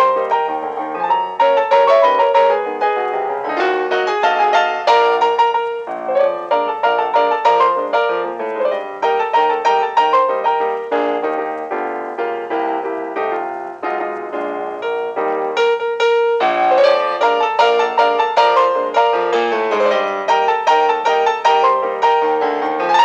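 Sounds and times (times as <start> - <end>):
piano music with quick repeated notes: 0.0 - 23.0.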